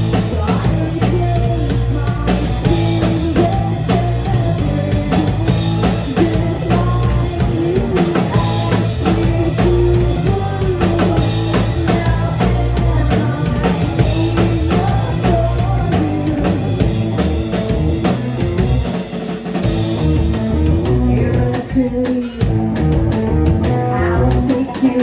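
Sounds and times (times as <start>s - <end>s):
drum kit beat: 0.0s - 25.0s
rock band playing: 0.0s - 25.0s.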